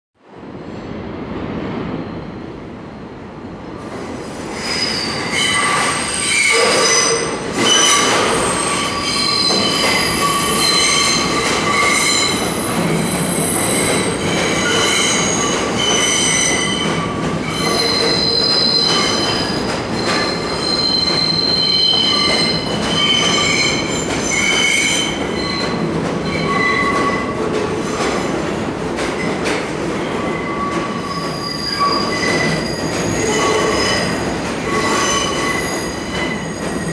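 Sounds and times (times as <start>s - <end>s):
subway train rumbling: 0.2s - 36.9s
train wheels squealing: 4.5s - 28.0s, 30.0s - 36.9s.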